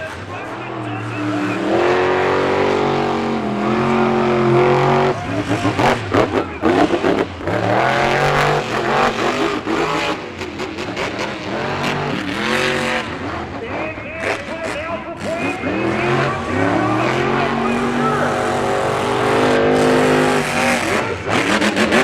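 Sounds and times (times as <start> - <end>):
monster truck engines revving: 0.0 - 22.0.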